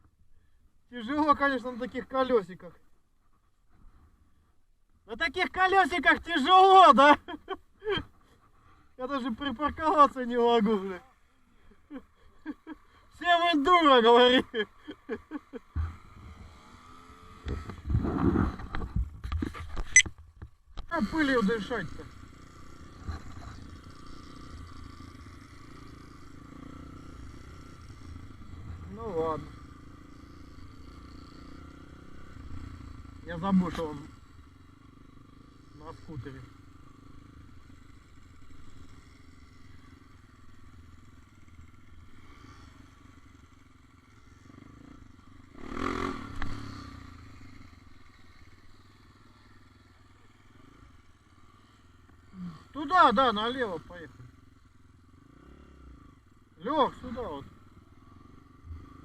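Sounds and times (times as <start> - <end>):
motorbike engine running: 5.5 - 19.6, 20.9 - 59.0.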